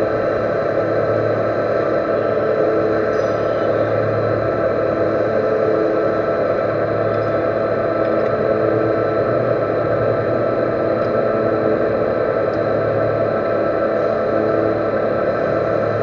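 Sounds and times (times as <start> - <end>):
metal lathe humming: 0.0 - 16.0.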